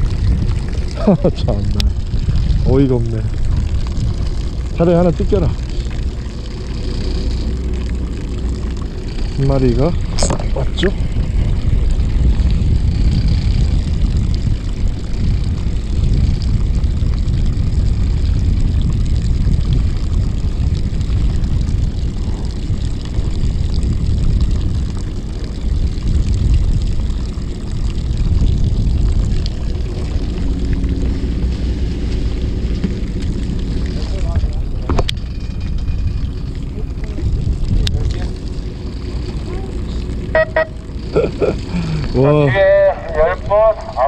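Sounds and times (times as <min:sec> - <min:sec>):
boat engine rumbling: 0:00.0 - 0:44.0
wind buffeting microphone: 0:00.0 - 0:44.0.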